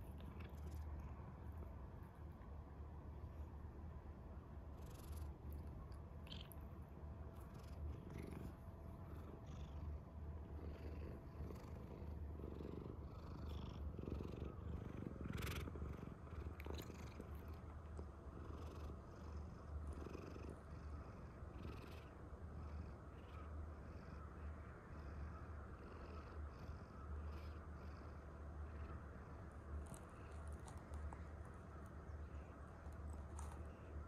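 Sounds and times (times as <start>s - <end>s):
cat purring: 0.0s - 2.4s, 4.6s - 31.4s.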